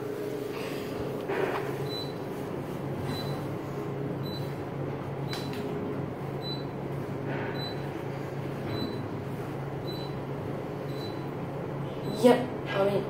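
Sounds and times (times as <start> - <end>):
elevator humming: 0.0 - 13.0.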